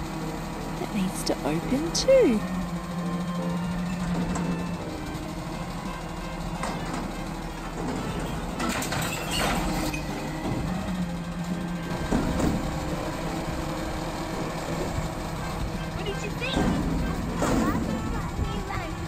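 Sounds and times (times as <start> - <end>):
garbage truck running: 0.0 - 19.0.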